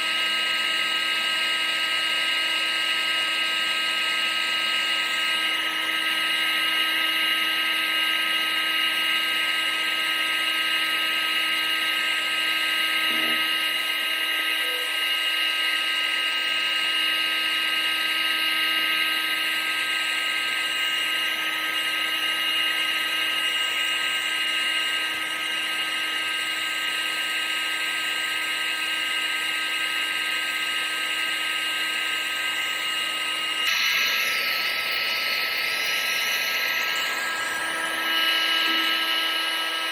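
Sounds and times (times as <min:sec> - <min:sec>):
appliance motor whining: 0:00.0 - 0:39.9.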